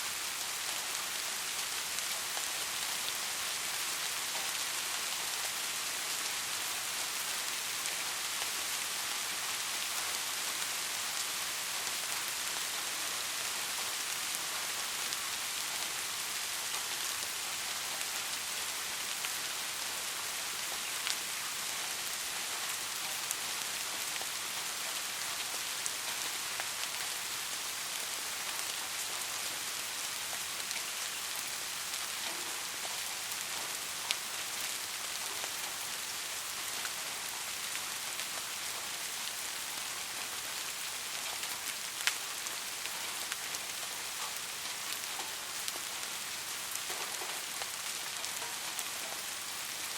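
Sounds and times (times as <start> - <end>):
steady rain hissing: 0.0 - 49.9.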